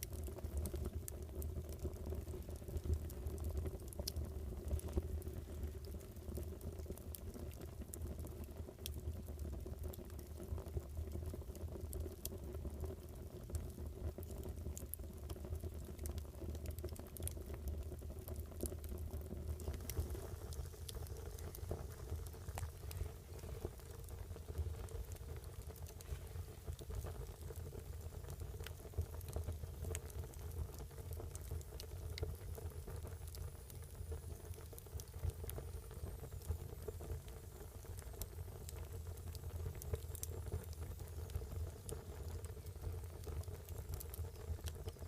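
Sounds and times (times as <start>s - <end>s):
fire crackles and pops: 0.0s - 45.0s
fire rumbling: 0.0s - 45.0s.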